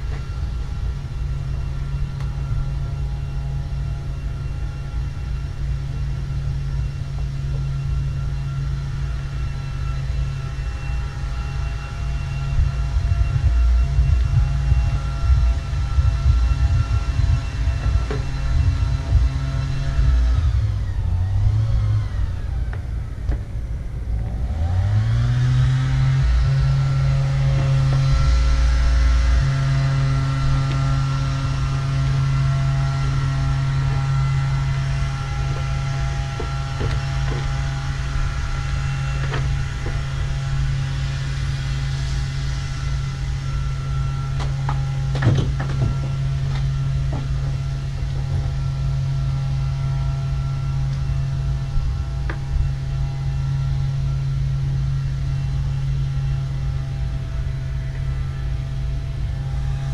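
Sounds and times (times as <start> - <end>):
motor humming whine: 0.0 - 59.9.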